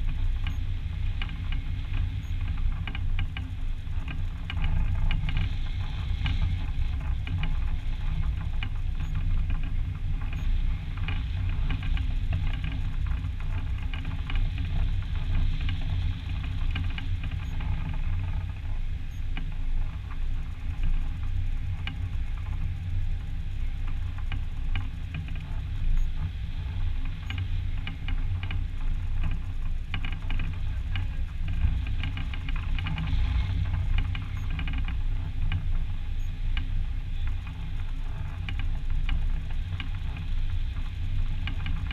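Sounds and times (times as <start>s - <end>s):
light ticks and rattles: 0.0s - 41.9s
wind rushing over microphone: 0.0s - 41.9s.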